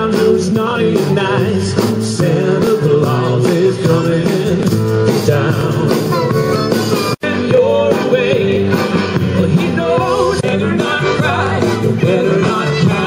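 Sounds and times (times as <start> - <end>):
band playing upbeat rock and roll: 0.0 - 13.0.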